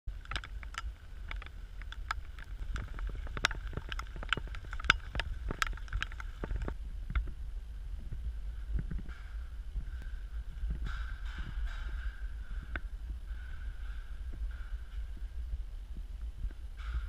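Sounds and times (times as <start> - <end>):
low rumble: 0.1 - 17.0.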